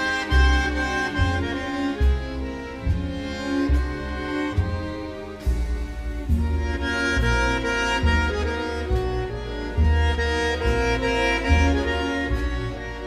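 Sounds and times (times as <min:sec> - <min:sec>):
bandoneon playing tango: 0:00.0 - 0:13.0
bowed strings: 0:00.0 - 0:13.0
pulsing bass notes: 0:00.0 - 0:13.0.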